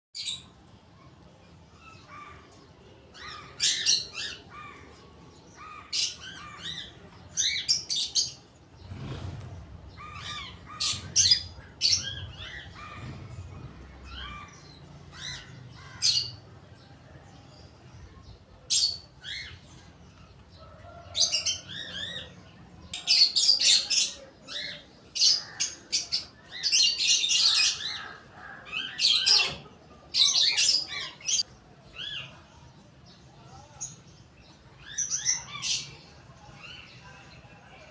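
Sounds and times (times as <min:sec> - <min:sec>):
birds chirping: 0:00.2 - 0:37.9.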